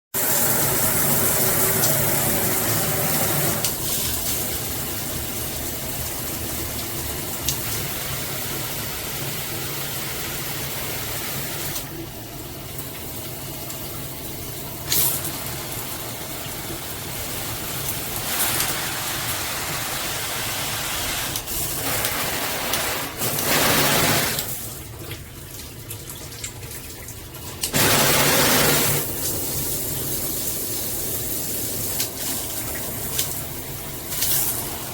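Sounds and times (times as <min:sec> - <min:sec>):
shower water spraying: 0:00.2 - 0:11.9, 0:12.7 - 0:25.8, 0:27.2 - 0:34.9.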